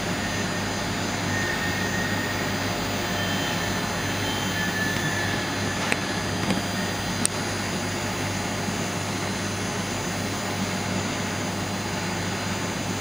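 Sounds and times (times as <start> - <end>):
laser marking machine running: 0.0 - 13.0.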